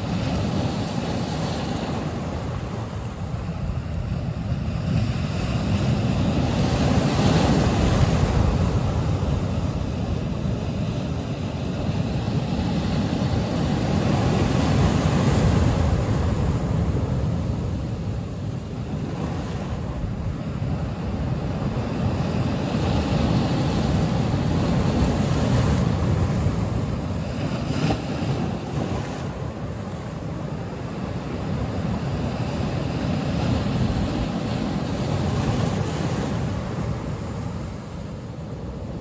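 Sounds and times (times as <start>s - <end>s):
ocean surf breaking on boulders: 0.0s - 39.0s.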